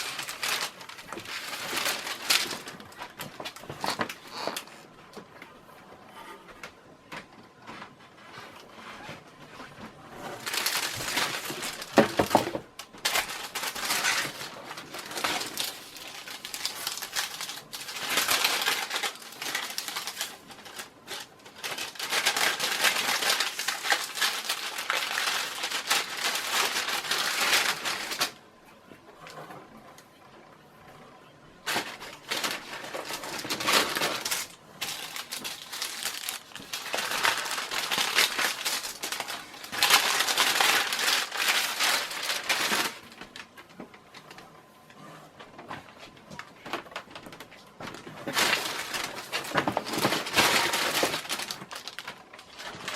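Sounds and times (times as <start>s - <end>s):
paper rustling and crinkling: 0.0s - 28.4s, 31.6s - 52.9s.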